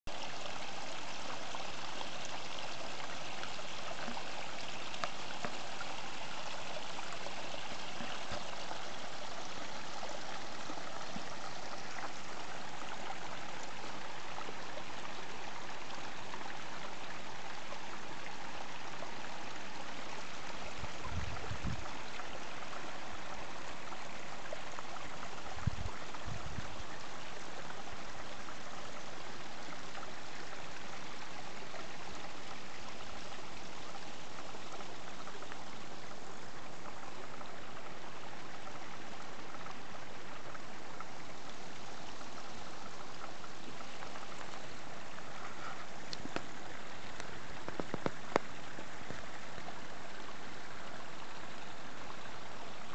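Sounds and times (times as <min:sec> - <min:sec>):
stream running over stones: 0:00.1 - 0:52.9.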